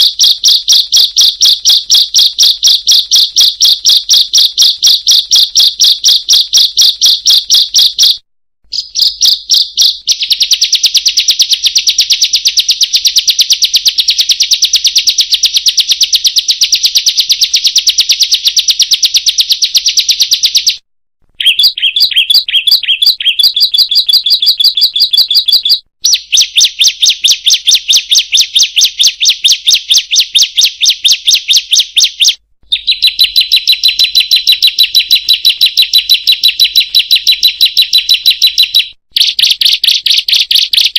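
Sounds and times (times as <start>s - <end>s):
bird chattering high-pitched: 0.0s - 19.2s, 21.4s - 40.9s.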